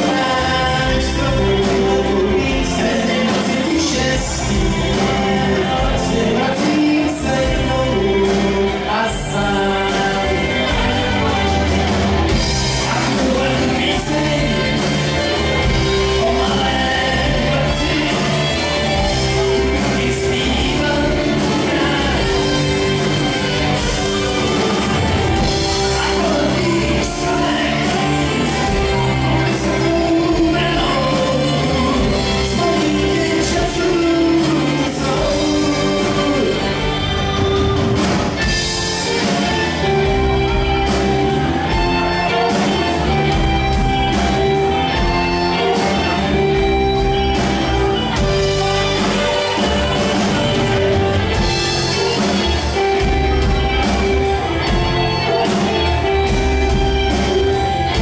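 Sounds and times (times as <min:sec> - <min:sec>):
live rock band: 0:00.0 - 0:58.0
person singing: 0:00.0 - 0:58.0.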